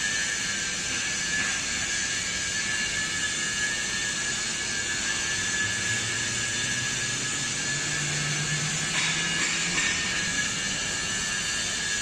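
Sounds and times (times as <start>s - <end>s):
hiss: 0.0s - 12.0s
hydraulic pump high whine: 0.0s - 12.0s.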